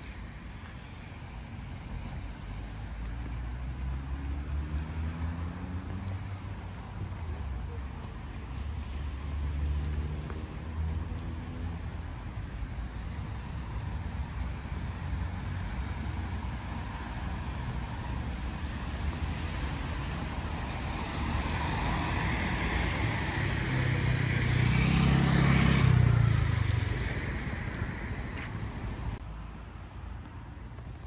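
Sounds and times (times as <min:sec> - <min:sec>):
car passing on wet street: 0:00.0 - 0:31.0
low rumble of traffic: 0:00.0 - 0:31.0.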